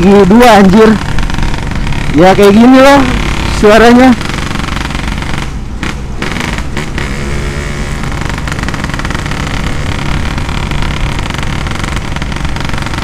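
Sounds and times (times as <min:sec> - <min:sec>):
loud two-stroke motorcycle engine: 0:00.0 - 0:13.0.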